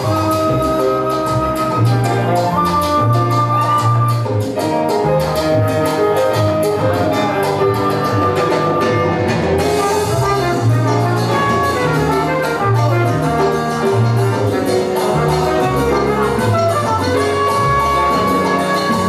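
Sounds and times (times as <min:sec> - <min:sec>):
brass horn section: 0:00.0 - 0:04.8, 0:05.5 - 0:19.0
bass line: 0:00.0 - 0:19.0
percussion: 0:00.0 - 0:19.0.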